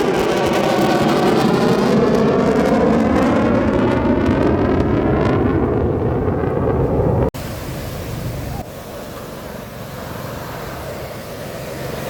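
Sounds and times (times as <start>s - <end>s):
jet aircraft roaring past: 0.0s - 12.0s.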